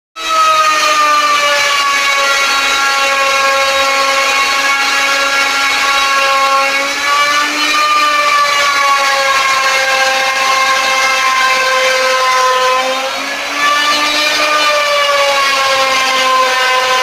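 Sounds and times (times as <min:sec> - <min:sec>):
power tool motor whining: 0:00.2 - 0:17.0.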